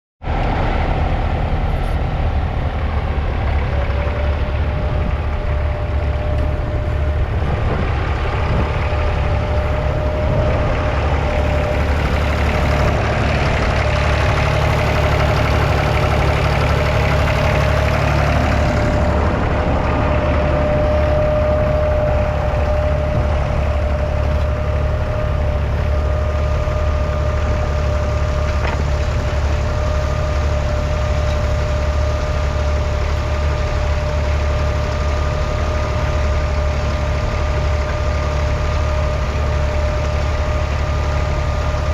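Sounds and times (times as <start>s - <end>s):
tractor diesel engine running: 0.2s - 41.9s
steady whine: 0.3s - 41.9s.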